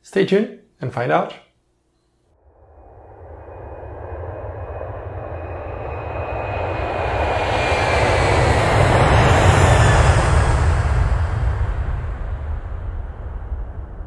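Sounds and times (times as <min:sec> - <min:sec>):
jet engine rumble and whine: 0:02.6 - 0:14.0.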